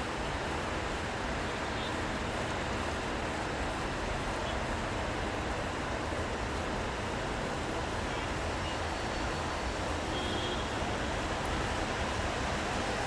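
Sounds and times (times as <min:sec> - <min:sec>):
rain: 0:00.0 - 0:13.0
traffic noise: 0:00.0 - 0:13.0.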